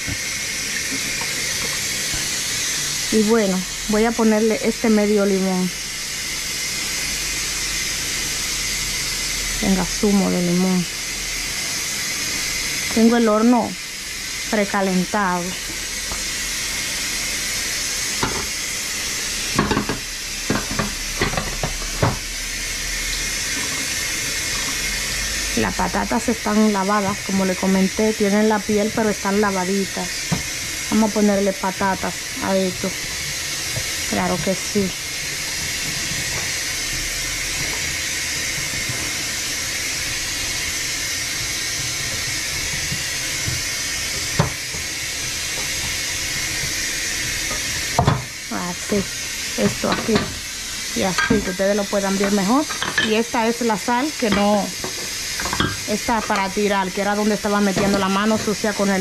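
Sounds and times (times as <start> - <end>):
food hissing on stove: 0.0 - 59.0.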